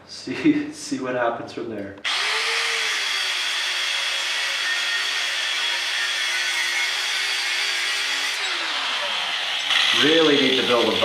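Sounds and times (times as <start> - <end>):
angle grinder cutting steel: 2.0 - 11.0.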